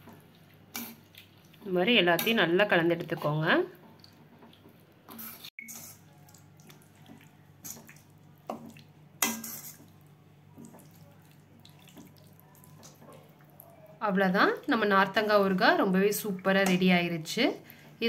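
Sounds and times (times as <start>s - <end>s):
wet squelching of stirred pickle: 0.0s - 18.0s.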